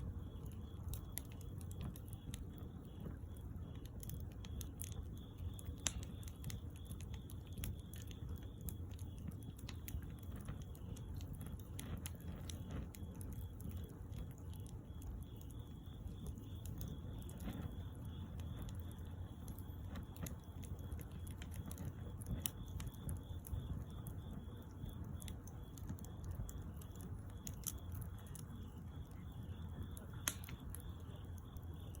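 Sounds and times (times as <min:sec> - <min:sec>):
bonfire crackling: 0:00.0 - 0:32.0.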